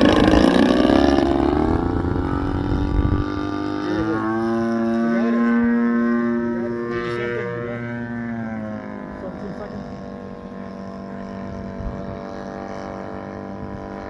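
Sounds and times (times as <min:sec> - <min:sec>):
model plane engine droning: 0:00.0 - 0:14.0.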